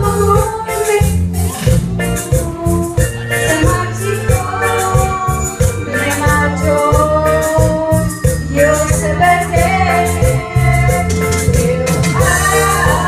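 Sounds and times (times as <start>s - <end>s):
latin backing track: 0.0s - 13.0s
person singing karaoke: 0.0s - 13.0s
pulsing bass line: 0.0s - 13.0s.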